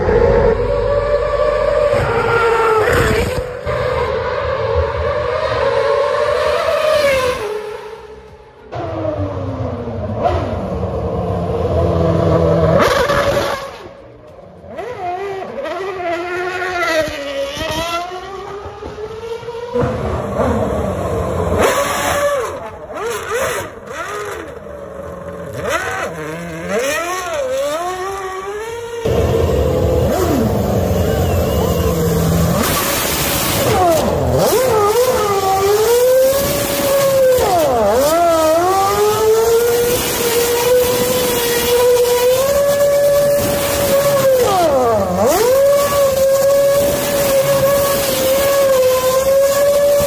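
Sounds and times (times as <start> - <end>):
racing car engine revving: 0.0 - 50.0.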